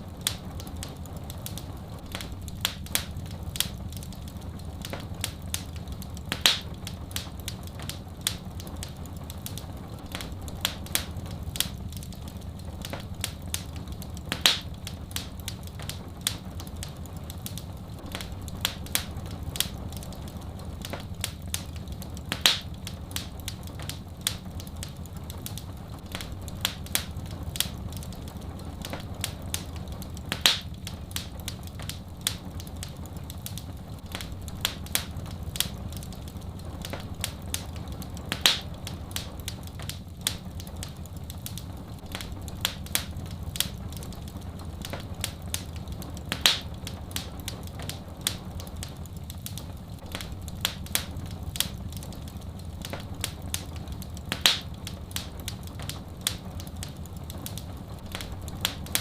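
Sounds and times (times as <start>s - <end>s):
loud fire pops: 0.0s - 59.0s
low steady rumble: 0.0s - 59.0s
wood fire crackling: 0.0s - 59.0s.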